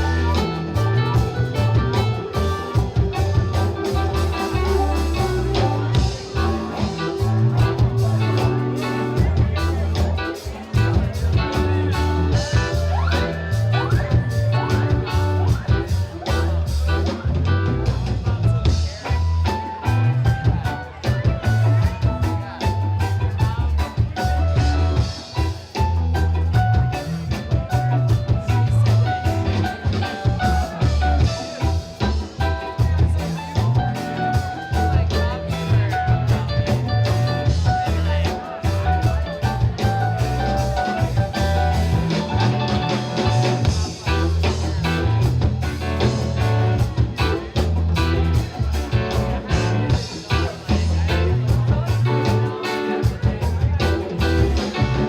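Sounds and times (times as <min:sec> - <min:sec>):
electric guitar: 0:00.0 - 0:55.0
rock band playing: 0:00.0 - 0:55.0.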